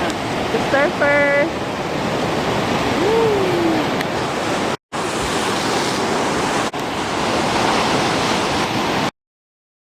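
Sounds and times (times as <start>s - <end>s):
surf breaking on a beach: 0.0s - 9.1s.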